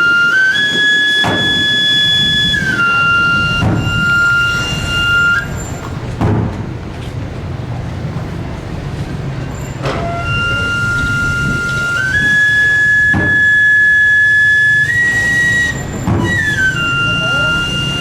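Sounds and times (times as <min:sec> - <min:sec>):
wooden shawm long notes: 0:00.0 - 0:18.0.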